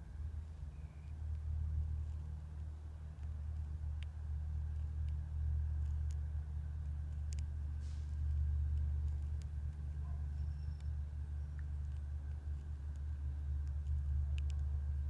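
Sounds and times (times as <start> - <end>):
steady low rumble: 0.0 - 15.0
faint clicks: 0.5 - 15.0.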